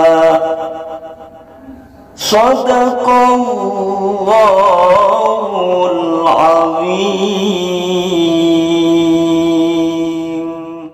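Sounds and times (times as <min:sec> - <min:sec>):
man chanting recitation: 0:00.0 - 0:10.9.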